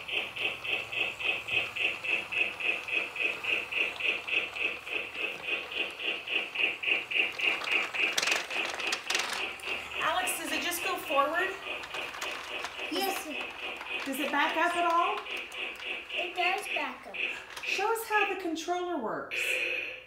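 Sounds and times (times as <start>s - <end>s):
toy steam locomotive chuffing: 0.0s - 20.0s.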